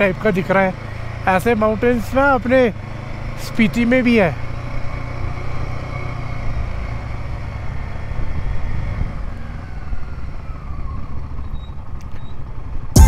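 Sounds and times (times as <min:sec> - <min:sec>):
motorcycle low rumble: 0:00.0 - 0:13.0.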